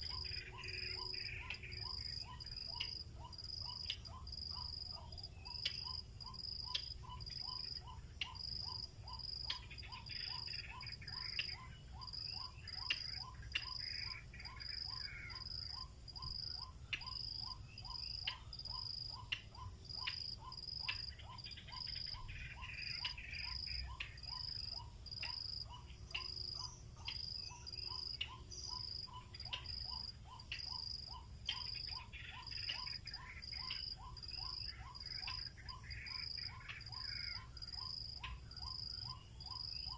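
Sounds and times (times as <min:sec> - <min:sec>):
high insect chirping: 0:00.0 - 0:39.9.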